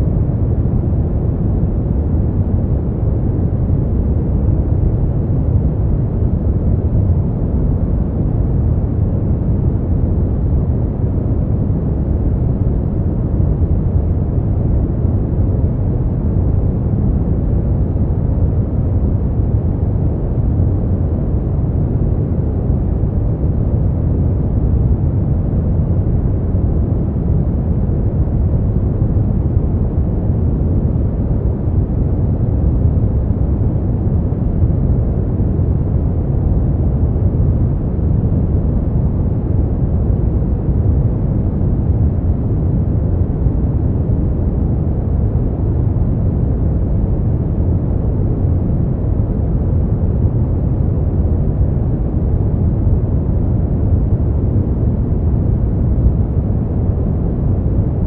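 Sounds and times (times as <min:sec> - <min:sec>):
deep rumbling brown noise: 0:00.0 - 0:58.0.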